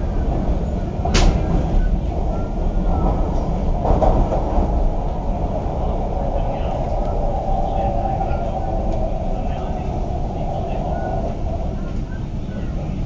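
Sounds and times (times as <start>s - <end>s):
metro car rumbling: 0.0s - 13.0s.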